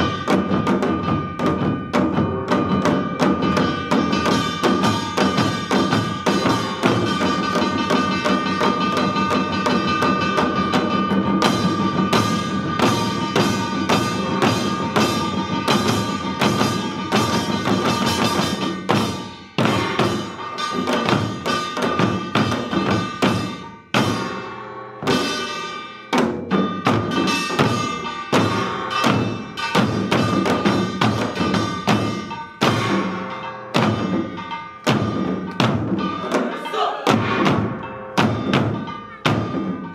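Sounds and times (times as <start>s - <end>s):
hourglass drums beating: 0.0s - 39.9s
small gongs ringing: 0.0s - 39.9s.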